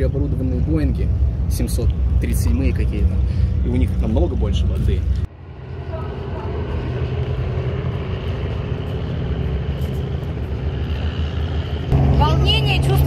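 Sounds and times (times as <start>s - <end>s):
light aircraft engine humming: 0.0s - 13.0s.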